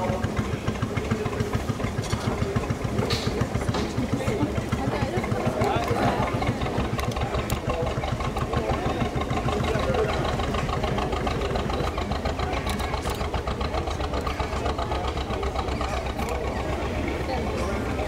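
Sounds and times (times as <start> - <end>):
diesel engine running slowly: 0.0 - 18.0.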